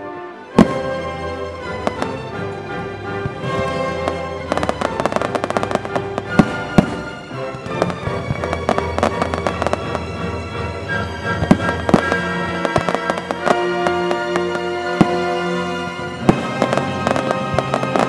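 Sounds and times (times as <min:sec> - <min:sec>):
music with held notes: 0:00.0 - 0:18.0
fireworks bangs: 0:00.6 - 0:10.5, 0:11.1 - 0:18.0
fireworks crackling: 0:00.6 - 0:18.0.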